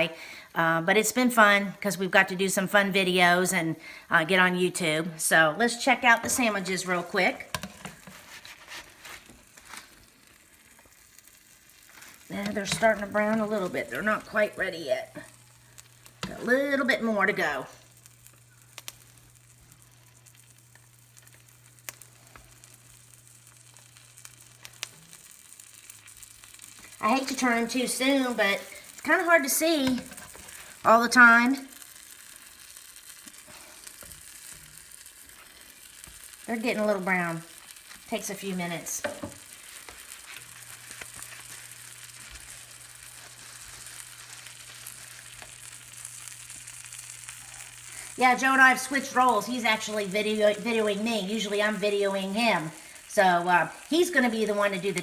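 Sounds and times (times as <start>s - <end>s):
sandwiches sizzling in a pan: 0.0s - 55.0s
low steady hum: 1.7s - 55.0s
small crackles: 5.7s - 55.0s.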